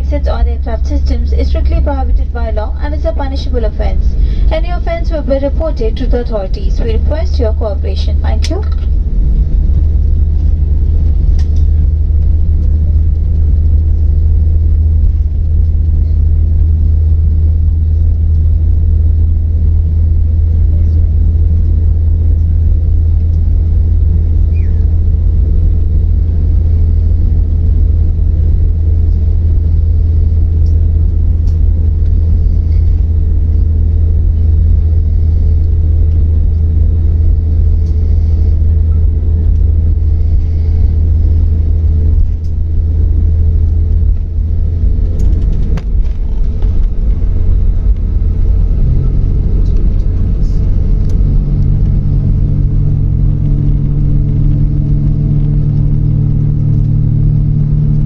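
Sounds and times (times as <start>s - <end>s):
airliner engines rumbling in cabin: 0.0s - 58.0s.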